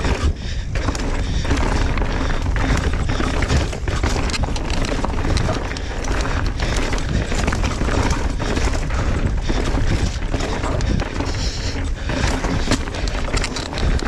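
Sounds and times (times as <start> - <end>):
bike chain and frame rattling: 0.0 - 14.0
low wind rumble on microphone: 0.0 - 14.0
tyres clattering on rocks: 0.8 - 14.0.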